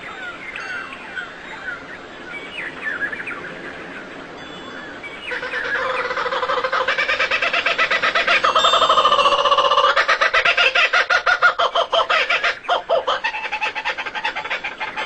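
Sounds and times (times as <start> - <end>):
birds chattering: 0.0 - 15.0.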